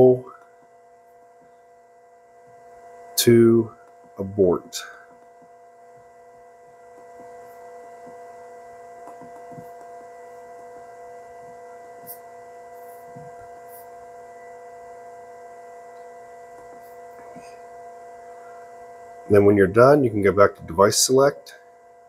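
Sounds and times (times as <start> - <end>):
electrical equipment hum: 0.0 - 22.0.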